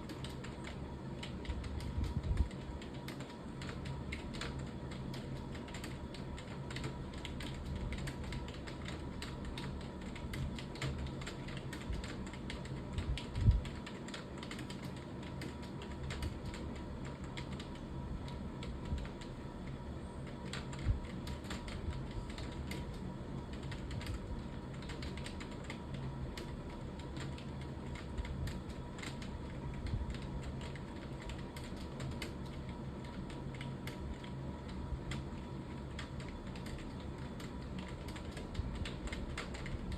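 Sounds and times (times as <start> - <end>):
typing on computer keyboard: 0.0 - 39.9.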